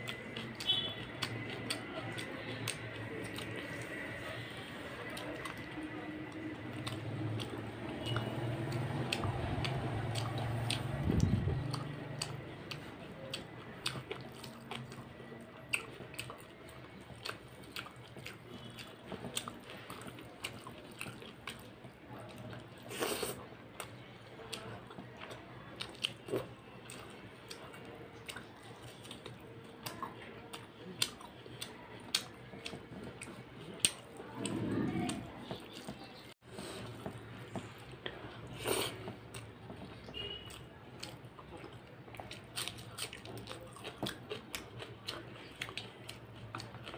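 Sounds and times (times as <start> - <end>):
wet chewing sounds: 0.0 - 46.9.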